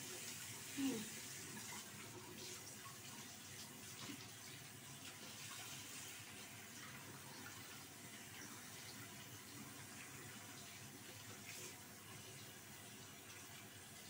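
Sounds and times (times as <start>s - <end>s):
faucet running into sink: 0.0s - 14.0s.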